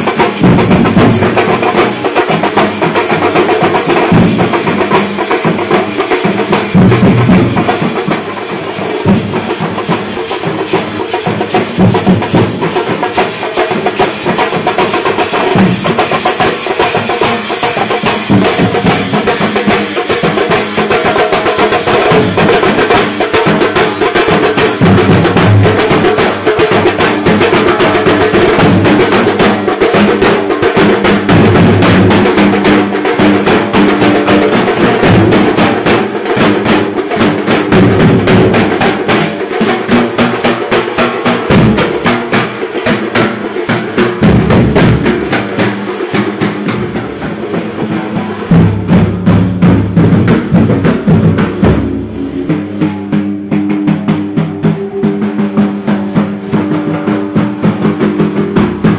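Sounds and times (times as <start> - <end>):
steel drums beaten with sticks: 0.0 - 58.9.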